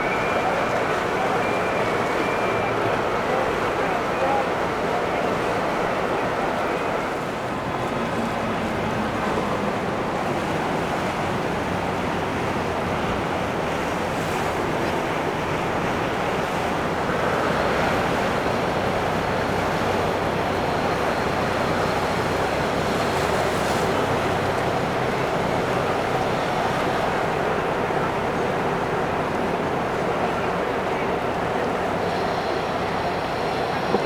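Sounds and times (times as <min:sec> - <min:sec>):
water and wind rushing: 0:00.0 - 0:34.0.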